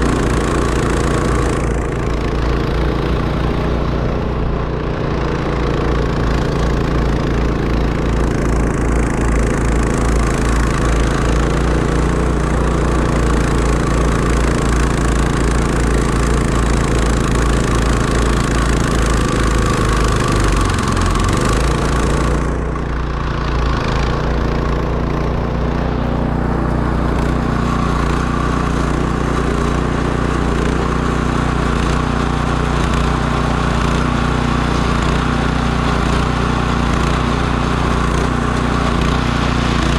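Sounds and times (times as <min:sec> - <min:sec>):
utility vehicle engine running: 0:00.0 - 0:39.9.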